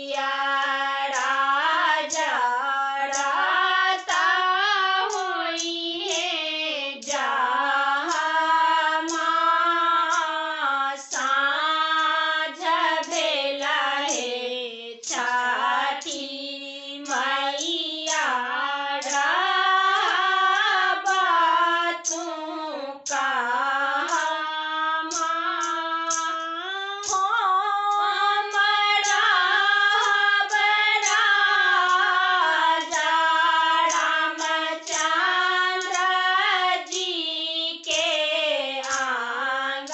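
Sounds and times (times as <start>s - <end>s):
women singing folk song: 0.0s - 39.9s.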